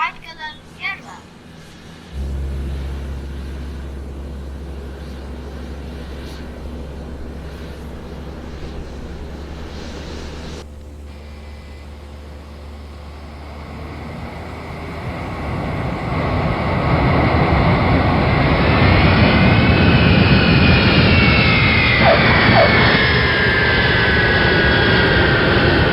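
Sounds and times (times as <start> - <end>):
jet engine roar with whine: 0.0 - 25.9.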